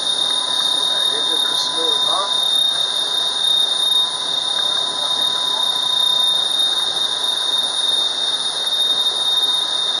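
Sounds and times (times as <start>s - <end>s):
diesel boat engines running: 0.0s - 10.0s
high-pitched engine whine: 0.0s - 10.0s.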